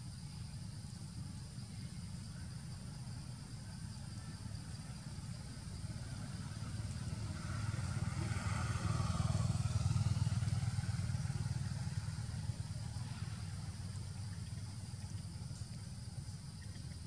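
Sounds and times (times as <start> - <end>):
passing vehicle engine rumble: 2.8 - 17.0.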